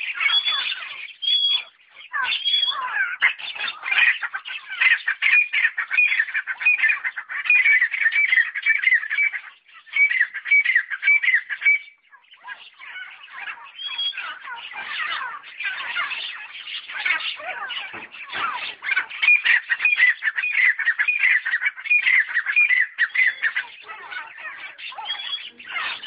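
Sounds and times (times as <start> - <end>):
partridges calling: 0.0 - 26.0
rhythmic bird call: 0.0 - 26.0.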